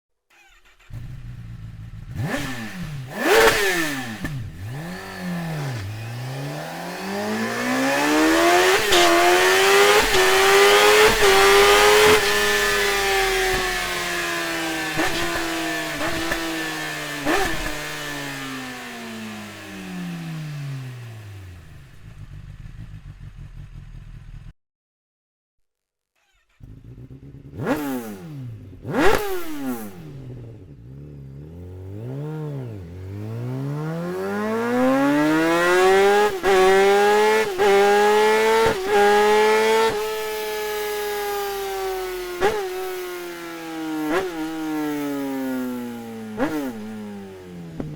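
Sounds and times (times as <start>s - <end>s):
motorcycle engine revving: 0.3s - 24.5s, 26.2s - 47.9s.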